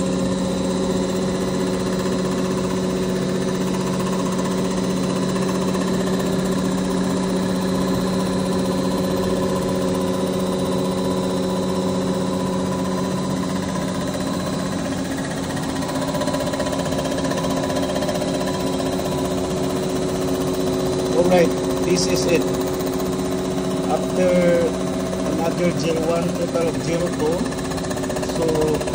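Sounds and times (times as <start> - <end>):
milling machine humming: 0.0 - 28.9.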